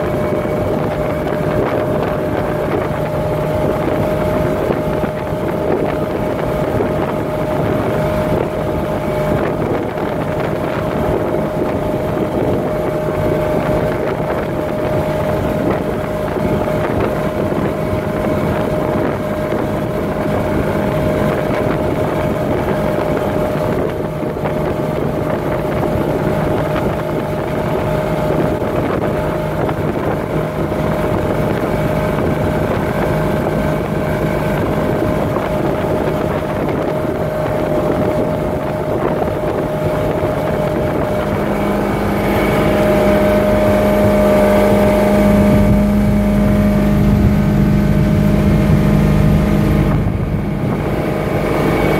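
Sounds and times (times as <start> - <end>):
boat engine whining: 0.0 - 51.9
wake rushing: 0.0 - 51.9
wind on microphone: 0.0 - 51.9.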